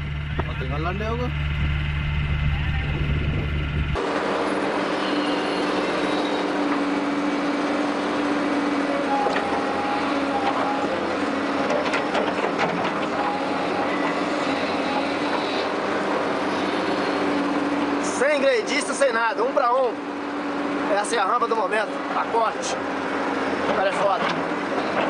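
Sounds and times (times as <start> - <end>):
excavator engine humming: 0.0 - 25.0.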